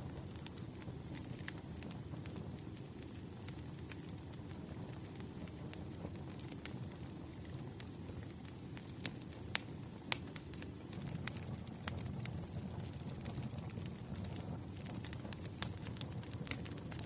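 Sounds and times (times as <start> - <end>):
fire crackling and popping: 0.0 - 17.0
rumble of flames: 0.0 - 17.0.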